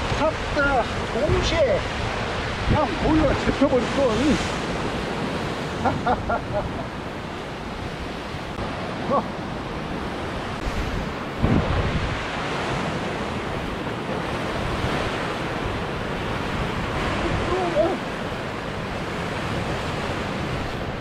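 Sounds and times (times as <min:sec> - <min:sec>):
ocean surf breaking on rocks: 0:00.0 - 0:21.0
wind rumbling on microphone: 0:00.0 - 0:21.0.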